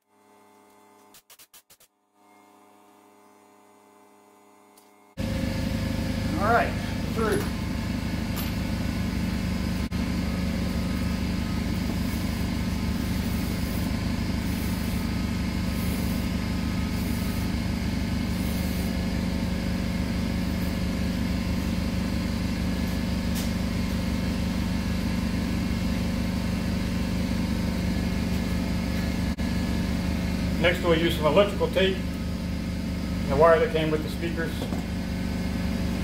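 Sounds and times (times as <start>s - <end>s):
machine hum: 2.3s - 36.0s.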